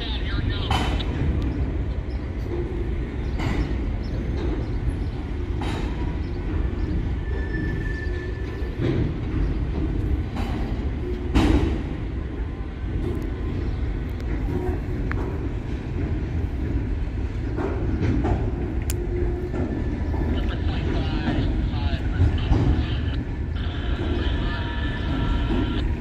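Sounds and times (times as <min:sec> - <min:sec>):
freight train wheels rumbling: 0:00.0 - 0:26.0
freight cars clanking: 0:00.1 - 0:26.0.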